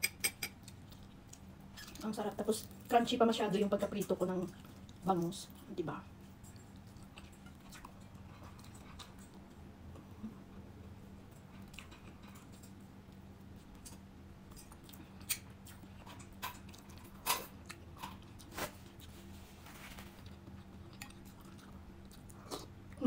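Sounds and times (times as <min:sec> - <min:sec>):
chewing and mouth clicks: 0:00.4 - 0:02.9, 0:04.5 - 0:10.2, 0:11.3 - 0:19.2, 0:20.1 - 0:23.0.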